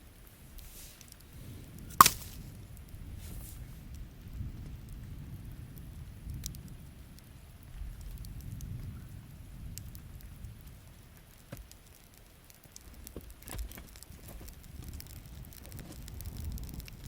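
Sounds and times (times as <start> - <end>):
campfire crackling and popping: 0.0 - 17.0
rain pattering: 0.0 - 17.0.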